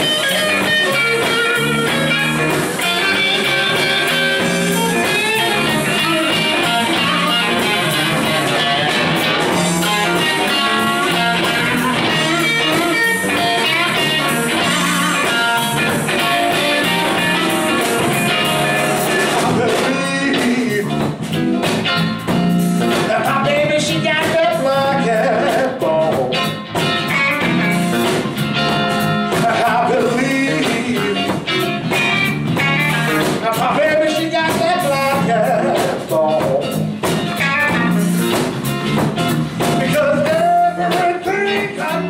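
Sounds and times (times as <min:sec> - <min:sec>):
drums with steady beat: 0:00.0 - 0:42.0
electric bass: 0:00.0 - 0:42.0
electric guitar lead lines: 0:00.0 - 0:42.0.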